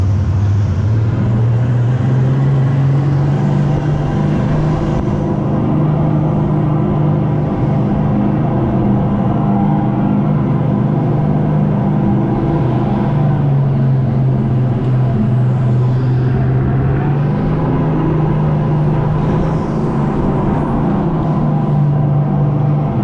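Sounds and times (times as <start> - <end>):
go-kart engine hum: 0.0 - 23.0.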